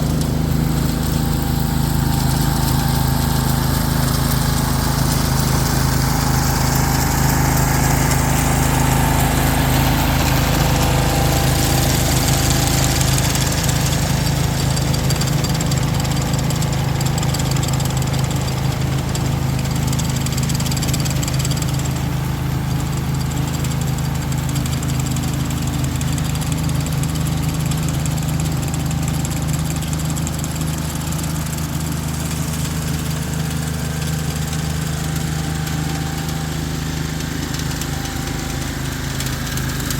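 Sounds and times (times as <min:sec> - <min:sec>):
lawn aerator engine running: 0:00.0 - 0:39.9.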